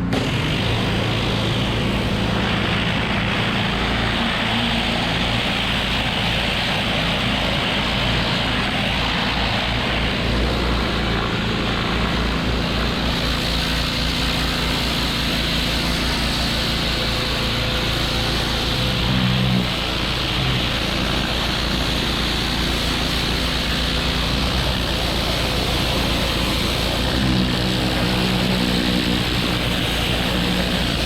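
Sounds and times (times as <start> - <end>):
high-pressure spray hissing on brick: 0.0 - 31.0
pressure washer engine drone: 0.0 - 31.0.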